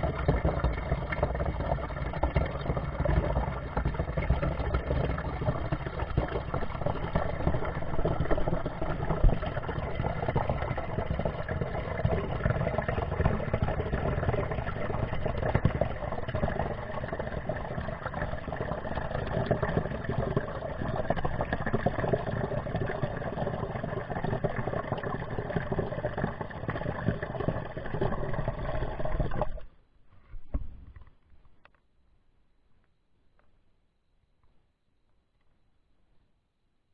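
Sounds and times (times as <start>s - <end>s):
water rushing and gurgling: 0.0s - 29.7s.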